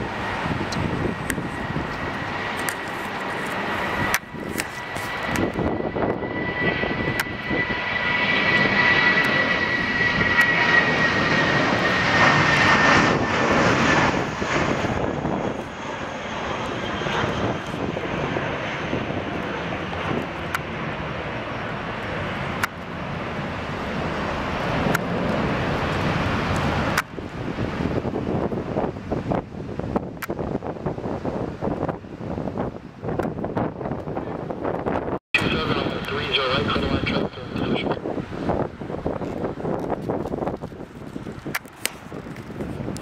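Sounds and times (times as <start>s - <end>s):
airliner engines whining: 0.0s - 43.0s.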